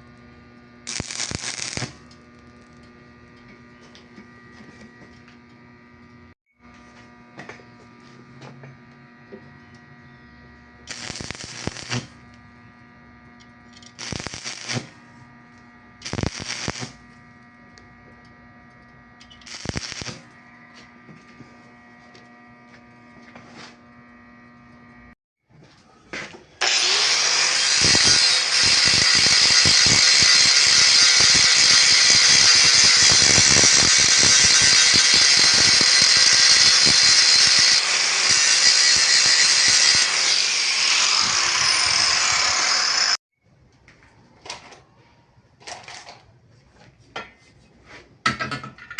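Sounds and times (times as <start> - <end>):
electric power tool running: 0.0 - 25.2, 26.6 - 43.2.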